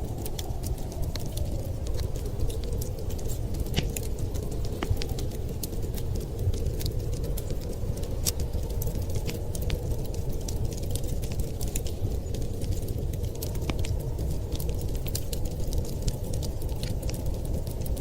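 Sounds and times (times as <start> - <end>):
blizzard wind rushing: 0.0 - 18.0
wood fire crackling and popping: 0.0 - 18.0.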